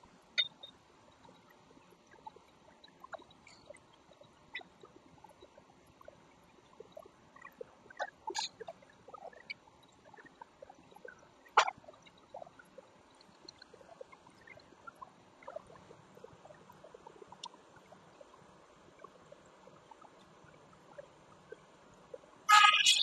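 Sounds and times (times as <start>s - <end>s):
faint ticks and crackles: 0.0s - 23.0s.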